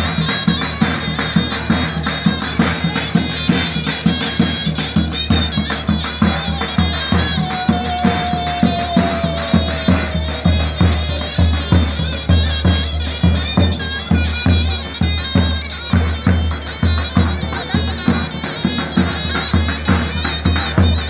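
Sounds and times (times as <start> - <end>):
deep drum beats: 0.0 - 21.0
shrill reed melody: 0.0 - 21.0.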